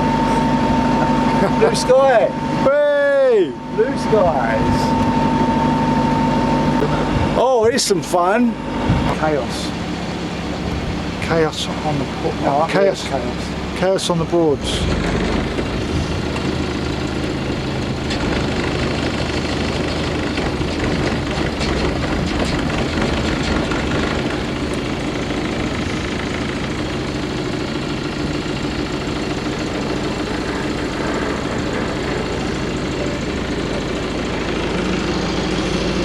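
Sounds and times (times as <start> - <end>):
boat engine throbbing at low revs: 0.0 - 36.0.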